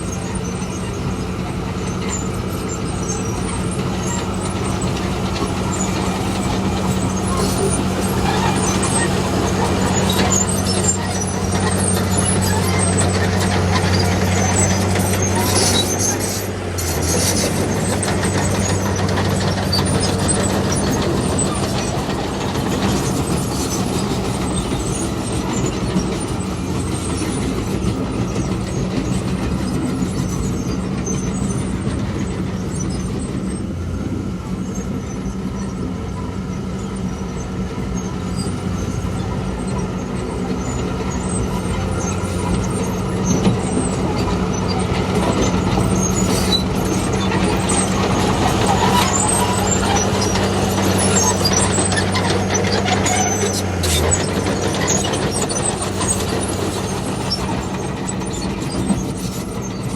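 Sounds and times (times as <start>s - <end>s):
diesel machinery engine running: 0.0s - 59.9s.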